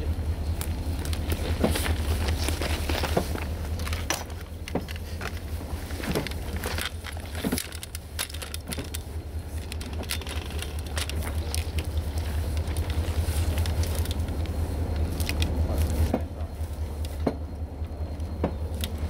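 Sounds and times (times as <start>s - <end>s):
low train rumble: 0.0s - 19.0s
train wheels clicking on rails: 0.0s - 19.0s
wheel squeaks: 0.7s - 19.0s.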